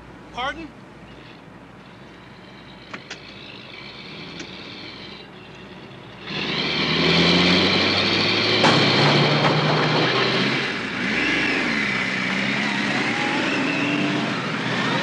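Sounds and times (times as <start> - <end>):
van engine racing: 0.8 - 15.0.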